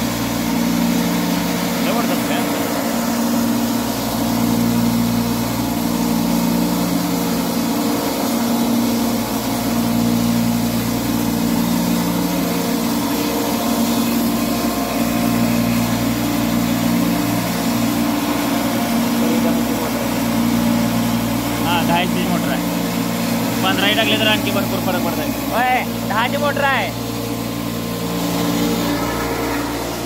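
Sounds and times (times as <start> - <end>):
hammer mill grinding grain: 0.0 - 30.0.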